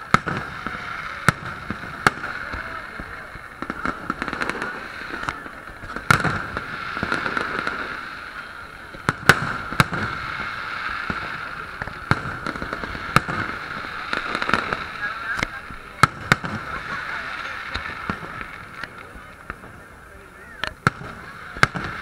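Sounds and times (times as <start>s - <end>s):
crowd voices: 0.0s - 22.0s
fireworks bursting in bangs: 0.0s - 22.0s.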